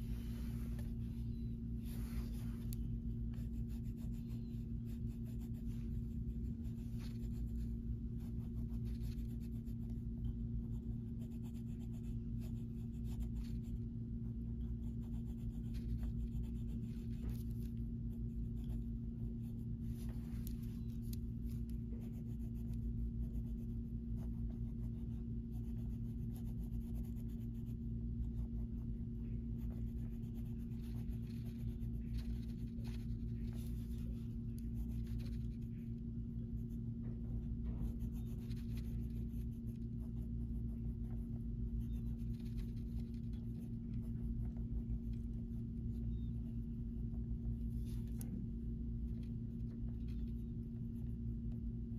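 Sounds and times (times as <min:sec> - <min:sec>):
steady low hum: 0:00.0 - 0:51.9
crayon scratching on paper: 0:01.8 - 0:35.8, 0:36.4 - 0:46.4.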